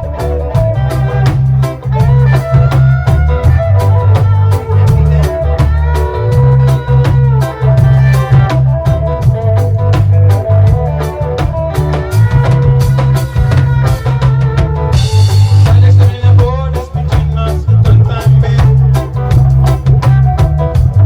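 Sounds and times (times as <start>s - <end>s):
deep bass line: 0.0s - 21.0s
drum kit with rimshots and cymbals: 0.0s - 21.0s
guitar: 0.0s - 21.0s.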